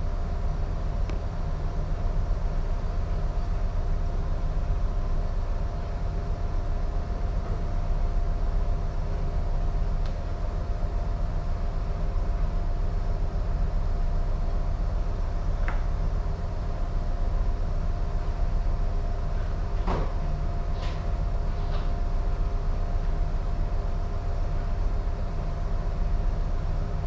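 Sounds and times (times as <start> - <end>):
ship machinery rumble and hum: 0.0 - 27.0.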